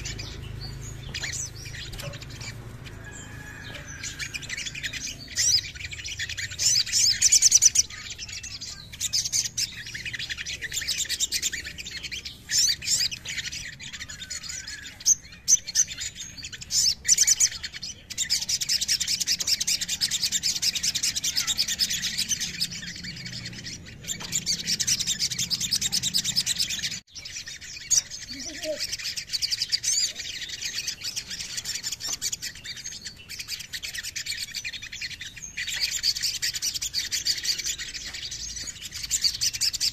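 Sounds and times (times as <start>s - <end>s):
sunbird trilling and chirping: 0.0s - 39.9s.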